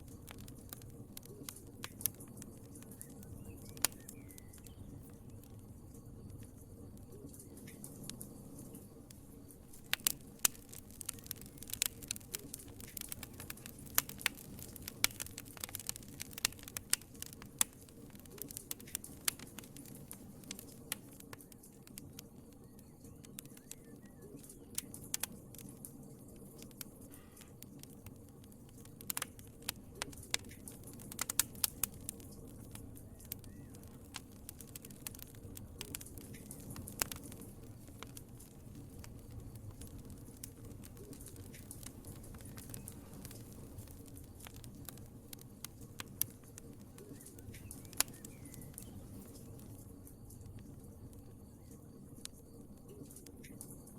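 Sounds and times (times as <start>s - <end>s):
fire crackling and popping: 0.0s - 53.9s
low rumble of flames: 0.0s - 53.9s.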